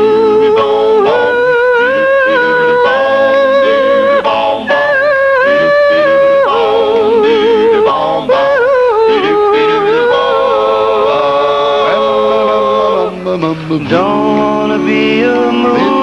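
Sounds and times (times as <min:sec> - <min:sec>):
backing voices harmonizing: 0:00.0 - 0:16.0
falsetto lead singing with vibrato: 0:00.0 - 0:16.0.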